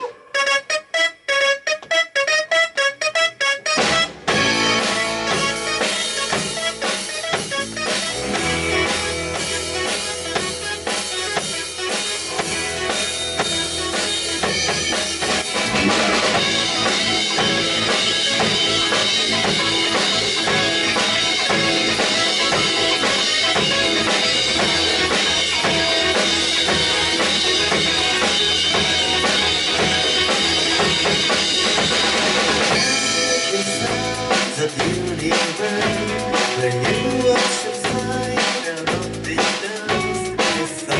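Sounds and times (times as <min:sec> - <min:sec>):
band music without vocals: 0:00.0 - 0:40.9
bass line: 0:00.0 - 0:40.9
drum kit beat: 0:00.0 - 0:40.9.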